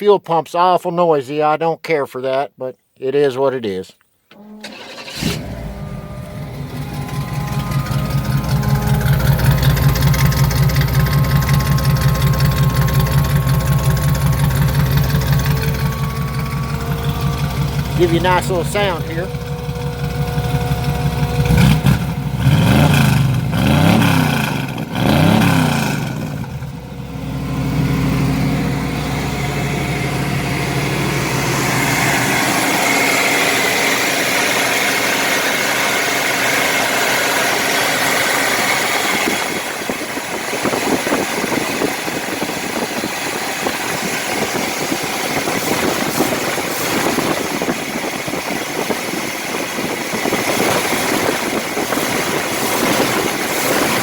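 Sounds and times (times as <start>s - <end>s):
car engine revving and idling: 4.6s - 54.0s.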